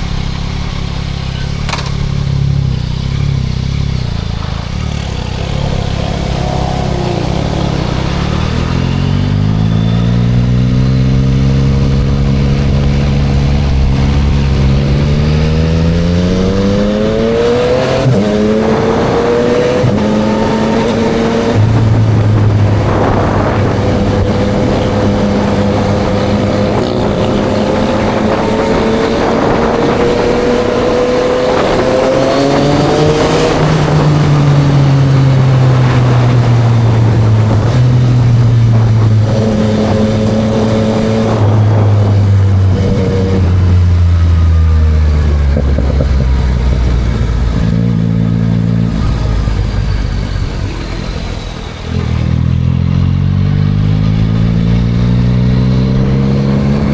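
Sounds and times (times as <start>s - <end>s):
gear shifts: 0.0s - 53.0s
motorcycle engine accelerating: 0.0s - 56.9s
wind and road noise: 0.0s - 56.9s.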